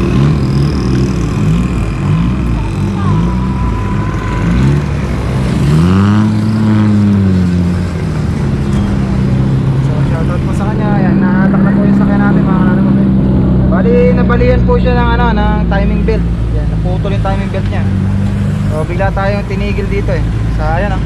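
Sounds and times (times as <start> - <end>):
engine rising and falling in pitch: 0.0 - 21.0
vehicle engines in traffic: 0.0 - 21.0.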